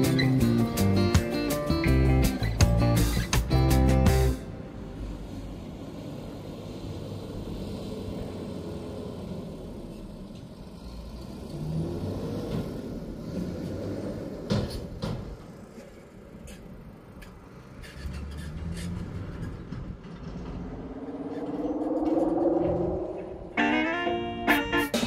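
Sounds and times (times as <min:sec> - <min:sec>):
heavy vehicle engines rumbling: 0:00.0 - 0:25.0.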